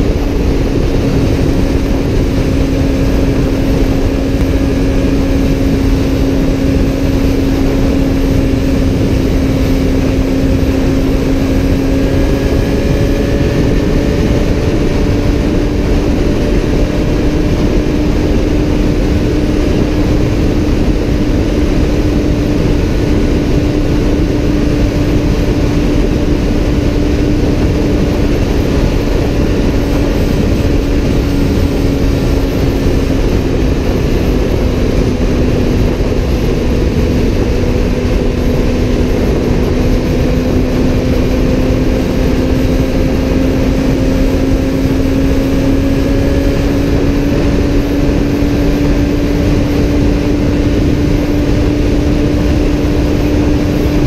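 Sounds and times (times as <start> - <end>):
motorcycle engine at high revs: 0.0 - 54.0
wind rush: 0.0 - 54.0.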